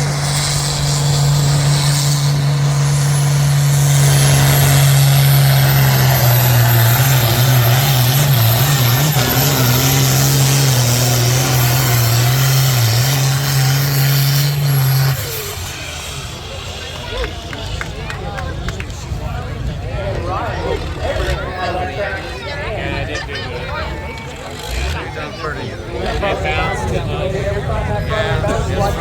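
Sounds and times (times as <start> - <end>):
pulling vehicle engine revving hard: 0.0 - 29.0.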